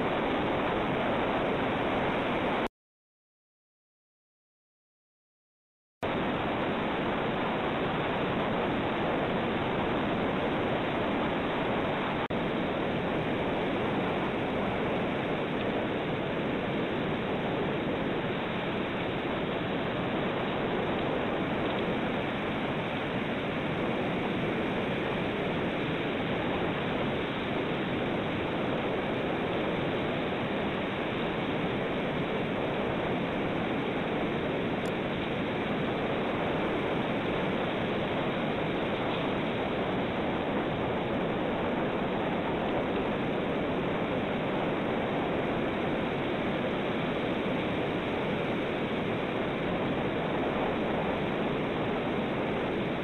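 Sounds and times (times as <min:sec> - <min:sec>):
steady rushing noise: 0:00.0 - 0:02.7, 0:06.0 - 0:53.0.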